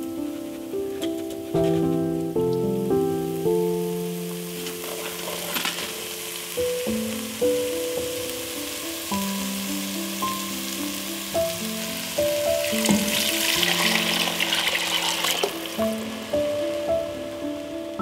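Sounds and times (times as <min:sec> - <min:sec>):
beans sizzling in a pot: 0:00.0 - 0:18.0
soft background music: 0:00.0 - 0:18.0
broth pouring and splashing: 0:02.0 - 0:18.0.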